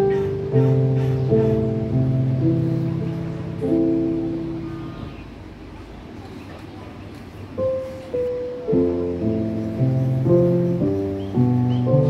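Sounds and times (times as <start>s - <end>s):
instrumental music with held notes: 0.0s - 5.3s, 7.5s - 12.0s.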